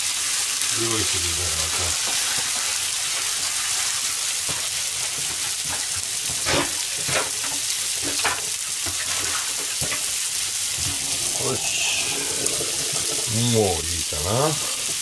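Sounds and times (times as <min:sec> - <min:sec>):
patties sizzling in a frying pan: 0:00.0 - 0:15.0.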